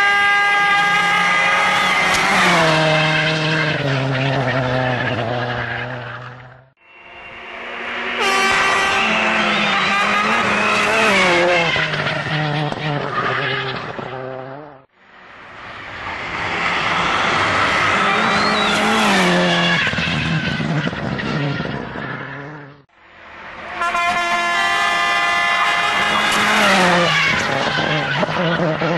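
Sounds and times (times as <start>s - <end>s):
rally car engines revving: 0.0s - 14.9s, 15.6s - 22.9s, 23.5s - 28.9s.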